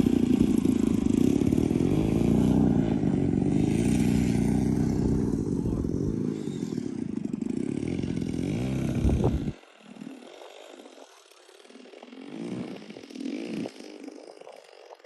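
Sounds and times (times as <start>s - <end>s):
distant model plane engine: 0.0s - 15.0s
model plane engine passing: 0.0s - 15.0s.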